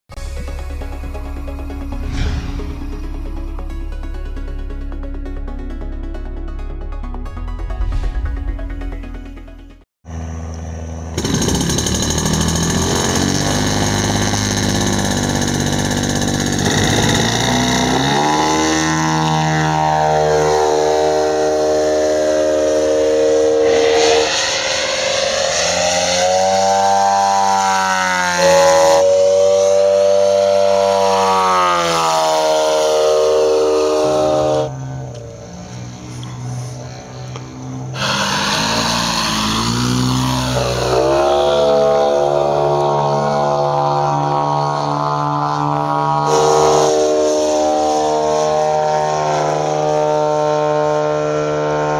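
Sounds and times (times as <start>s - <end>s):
model airplane engine: 10.1s - 51.9s.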